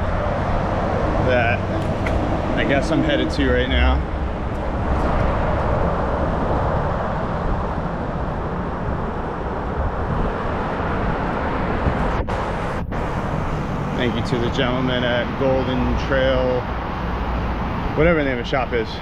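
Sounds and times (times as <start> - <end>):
wind buffeting microphone: 0.0 - 18.8
road and traffic noise: 0.0 - 19.0.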